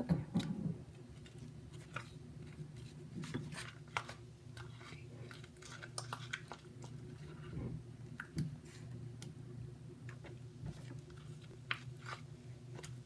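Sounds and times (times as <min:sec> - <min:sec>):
slime squelching in a bowl: 0:01.1 - 0:09.3, 0:10.0 - 0:13.0.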